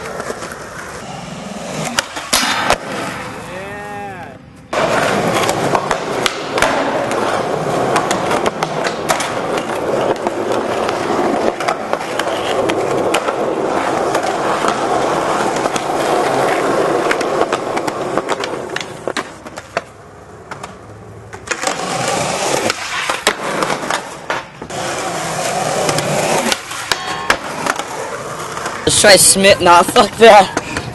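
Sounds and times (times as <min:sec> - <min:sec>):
skateboard wheels rolling on concrete: 0:00.0 - 0:30.9
skateboard clacks popping and landing: 0:01.7 - 0:03.3, 0:04.7 - 0:28.9.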